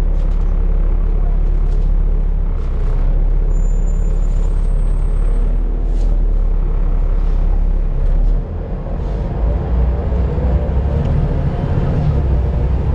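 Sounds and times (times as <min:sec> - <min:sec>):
diesel bus engine rumbling: 0:00.0 - 0:12.9.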